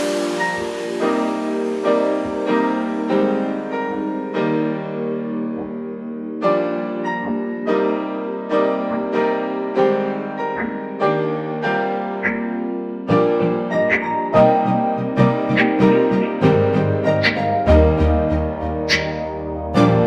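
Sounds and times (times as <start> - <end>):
piano background music: 0.0 - 20.0.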